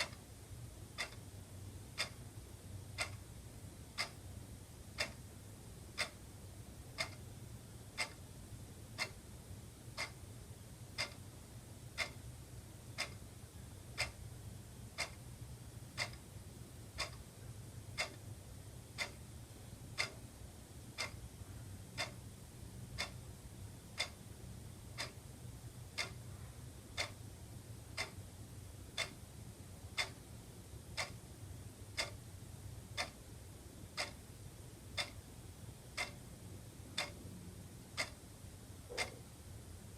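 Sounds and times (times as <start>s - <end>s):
faint low hum: 0.0s - 39.9s
wall clock ticking: 0.0s - 39.9s.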